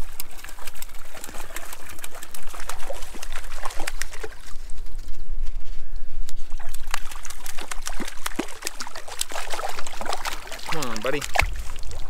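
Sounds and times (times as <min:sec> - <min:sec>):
fish splashing in water: 0:00.0 - 0:04.7, 0:06.6 - 0:12.0.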